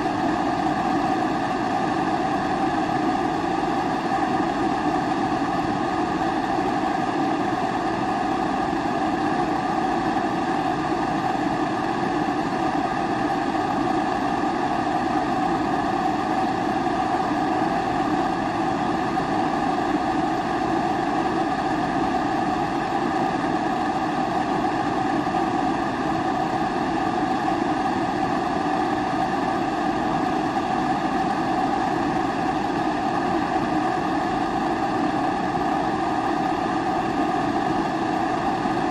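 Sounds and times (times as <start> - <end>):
stove flame rushing: 0.0 - 38.9.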